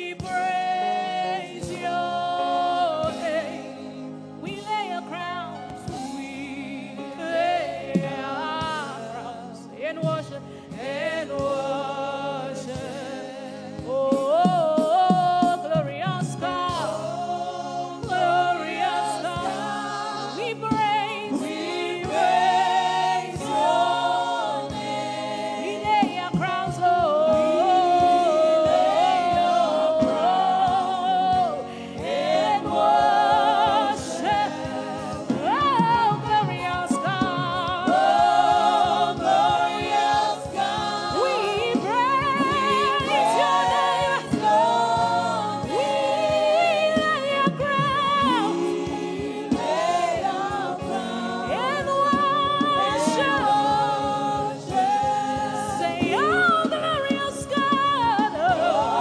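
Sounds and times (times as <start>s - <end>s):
backing music: 0.0s - 59.0s
gospel choir singing: 0.0s - 59.0s.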